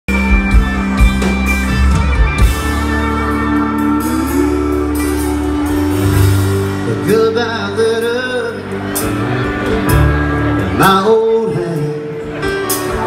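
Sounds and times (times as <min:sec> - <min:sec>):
country band playing: 0:00.1 - 0:13.0.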